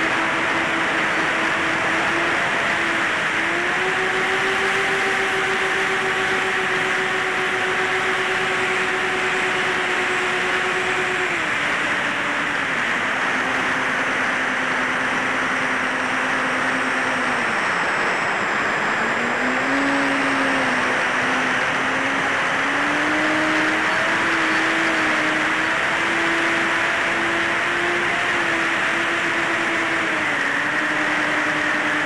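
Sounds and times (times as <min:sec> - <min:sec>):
electric motor and propeller hum: 0:00.0 - 0:32.0.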